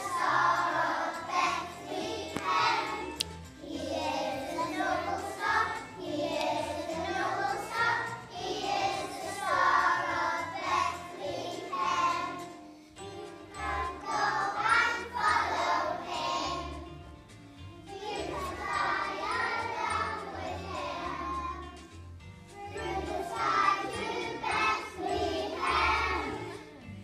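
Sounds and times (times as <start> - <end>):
children singing together: 0.0 - 17.1, 17.9 - 21.8, 22.6 - 26.8
musical accompaniment: 0.0 - 27.0.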